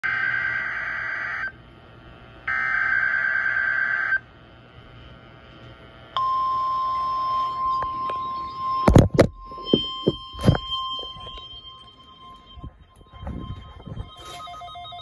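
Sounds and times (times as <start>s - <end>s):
steady warning alarm tone: 0.0s - 1.6s, 2.2s - 4.3s, 6.2s - 15.0s
harsh buzzy data bursts: 0.1s - 15.0s.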